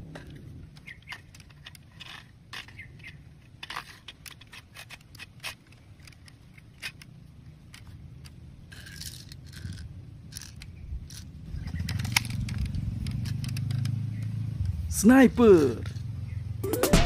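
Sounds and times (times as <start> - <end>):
plastic magazine scraping: 0.1 - 14.7.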